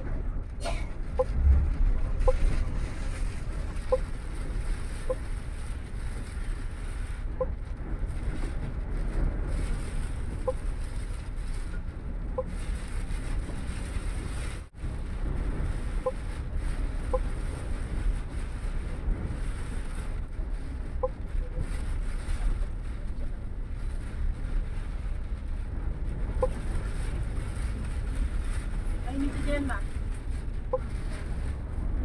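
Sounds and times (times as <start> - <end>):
bus engine and road rumble: 0.0 - 32.0.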